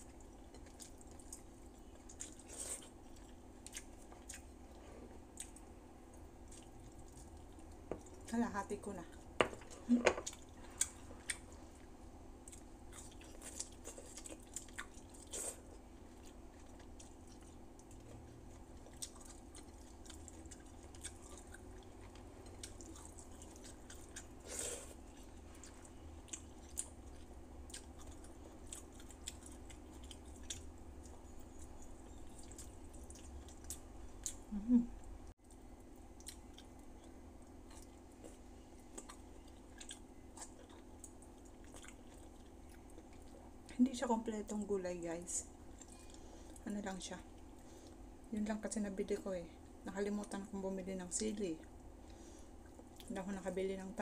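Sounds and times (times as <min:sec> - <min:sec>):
person chewing food: 0:00.0 - 0:08.3, 0:09.1 - 0:43.7, 0:51.8 - 0:53.1.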